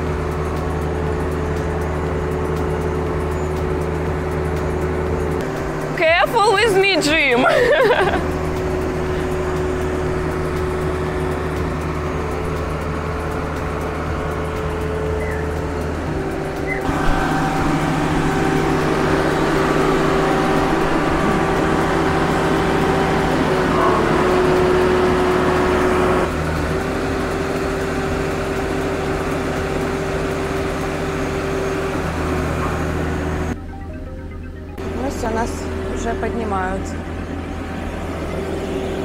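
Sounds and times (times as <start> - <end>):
engine droning steadily: 0.0 - 39.0.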